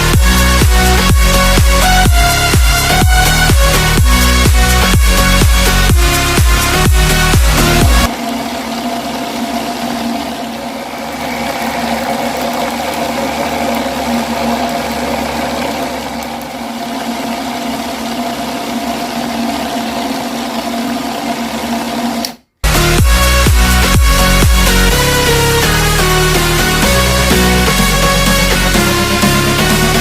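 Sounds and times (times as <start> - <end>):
mixer-grinder motor whining: 0.0 - 30.0.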